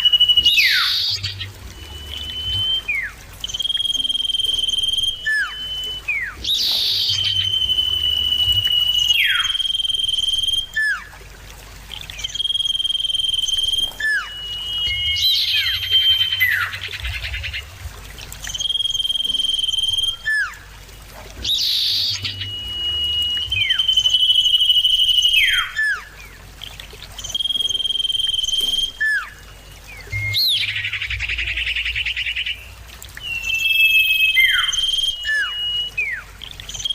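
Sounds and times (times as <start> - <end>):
bird whistling: 0.0 - 11.1, 12.1 - 17.7, 18.4 - 20.7, 21.4 - 26.4, 27.2 - 36.9.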